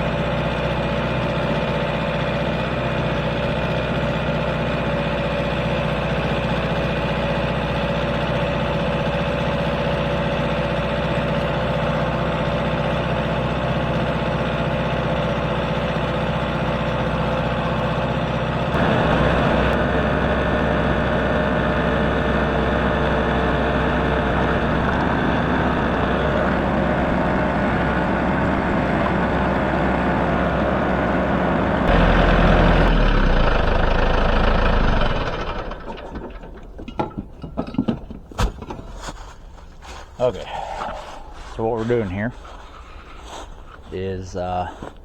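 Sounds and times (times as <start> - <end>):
vehicle engine idling: 0.0 - 45.0.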